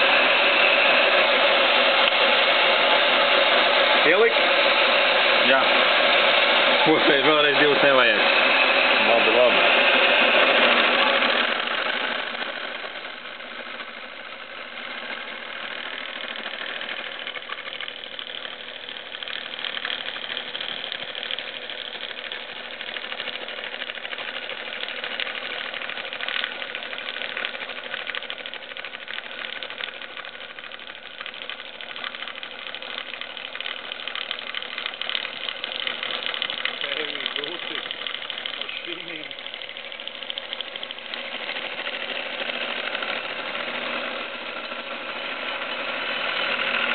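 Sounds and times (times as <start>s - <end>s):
machine hum: 0.0s - 46.9s
milling cutter cutting steel: 0.0s - 46.9s
rapid ticking of cutter inserts: 0.0s - 46.9s.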